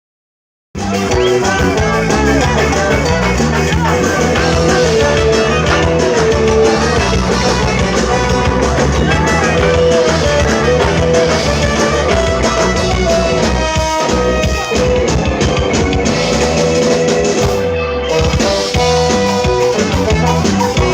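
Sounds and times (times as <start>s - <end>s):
ska band playing live: 0.8s - 20.9s.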